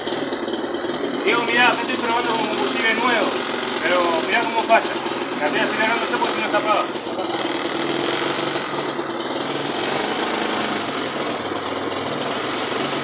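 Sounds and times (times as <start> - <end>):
motorcycle engine misfiring: 0.0 - 13.0.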